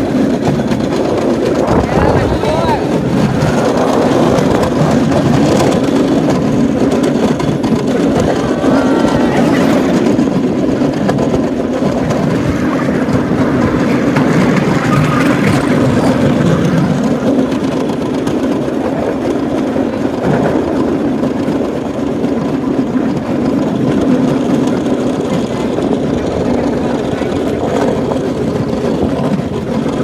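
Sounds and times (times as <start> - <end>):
rail cart running on rails: 0.0 - 30.0
small engine droning: 0.0 - 30.0.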